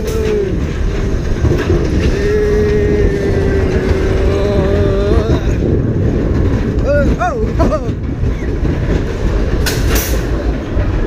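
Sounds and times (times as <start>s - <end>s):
roller coaster rumbling on track: 0.0s - 11.0s.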